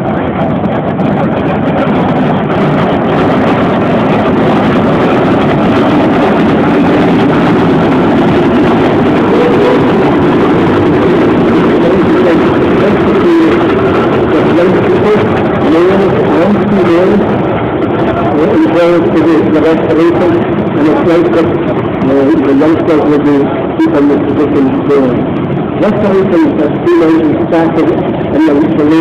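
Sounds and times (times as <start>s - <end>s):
steam traction engines running: 0.0s - 29.0s.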